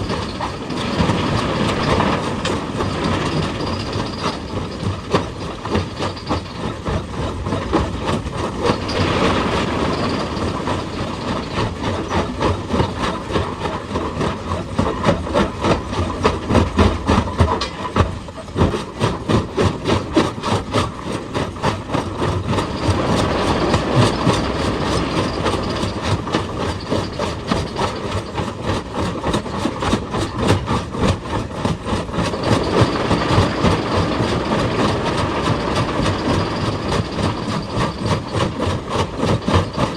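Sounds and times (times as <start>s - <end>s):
excavator engine running: 0.0s - 28.4s, 30.1s - 39.9s
hydraulic breaker hammering rock: 0.0s - 39.9s.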